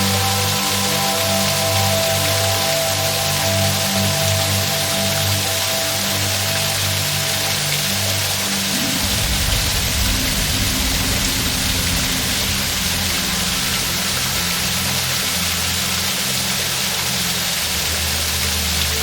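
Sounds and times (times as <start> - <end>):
soft music of low notes: 0.0 - 19.0
waterfall rushing: 0.0 - 19.0.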